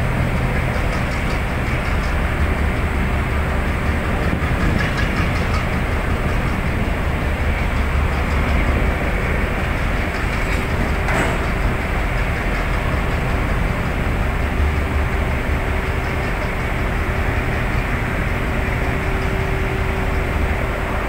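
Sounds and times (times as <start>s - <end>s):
ship engine machinery rumbling: 0.0s - 21.0s.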